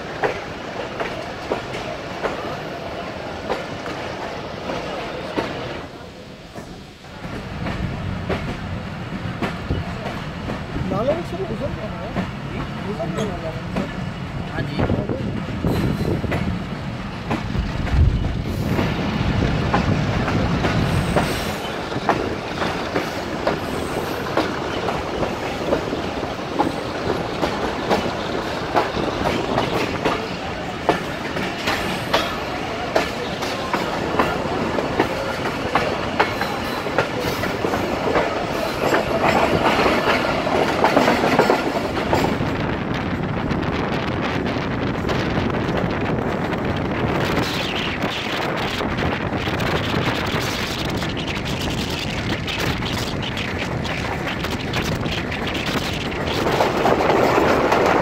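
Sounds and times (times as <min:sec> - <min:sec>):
train wheels clicking over rail joints: 0:00.0 - 0:05.8, 0:06.4 - 0:11.2, 0:15.3 - 0:43.3, 0:45.0 - 0:58.0
train rumble: 0:00.0 - 0:58.0.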